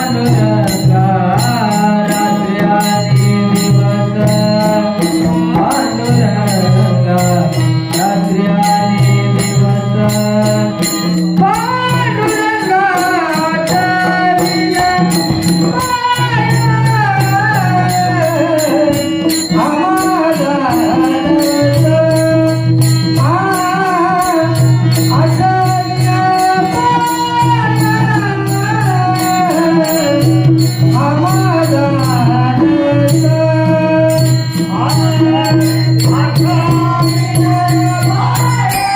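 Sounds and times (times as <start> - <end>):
harmonium drone: 0.0 - 38.9
light percussion beat: 0.0 - 38.9
man singing devotional melody: 0.0 - 38.9.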